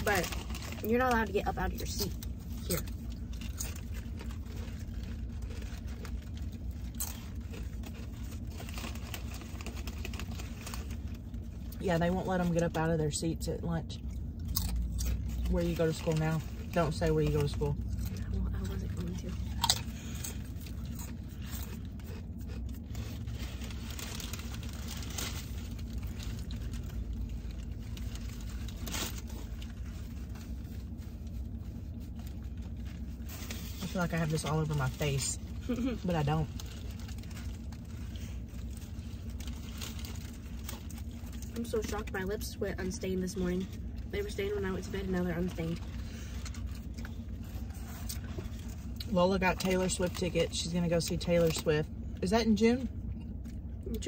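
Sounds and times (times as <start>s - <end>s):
paper wrapper crinkling: 0.0s - 12.8s, 14.1s - 52.1s
crunching and chewing food: 0.0s - 54.0s
low hum inside a car: 0.0s - 54.0s.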